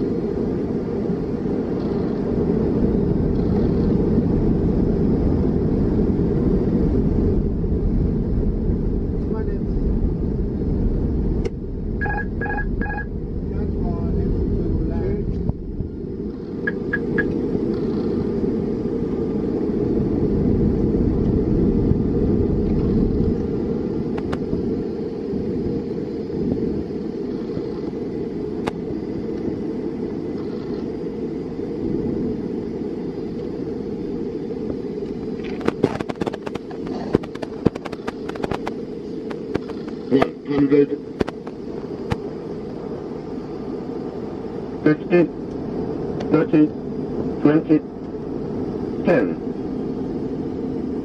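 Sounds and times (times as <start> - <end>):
low rumble of airflow and engines: 0.0 - 51.0.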